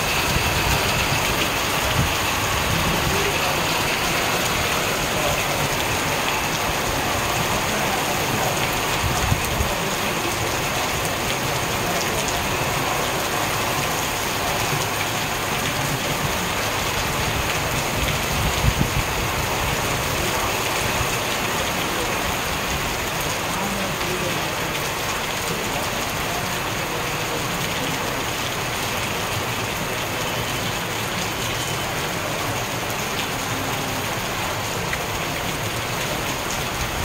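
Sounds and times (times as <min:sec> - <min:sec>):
heavy rain on paving and leaves: 0:00.0 - 0:37.0.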